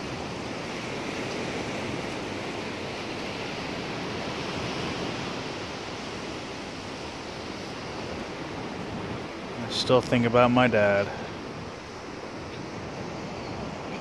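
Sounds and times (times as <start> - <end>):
ocean surf washing on beach: 0.0 - 14.0
wind: 0.0 - 14.0.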